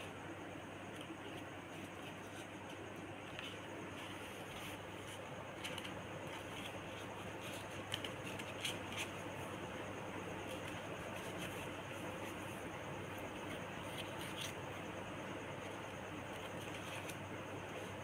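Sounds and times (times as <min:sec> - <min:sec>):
banknotes rustling: 0:00.8 - 0:14.9, 0:15.5 - 0:18.0.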